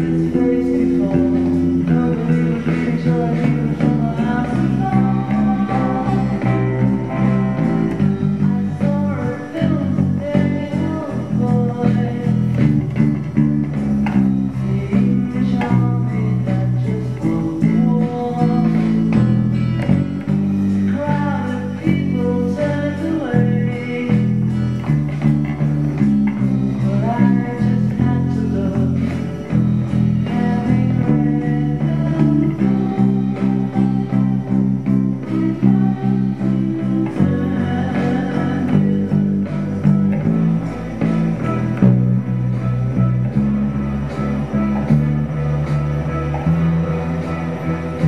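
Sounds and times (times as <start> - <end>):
electric bass guitar playing: 0.0 - 48.0
recorded rock music: 0.0 - 48.0.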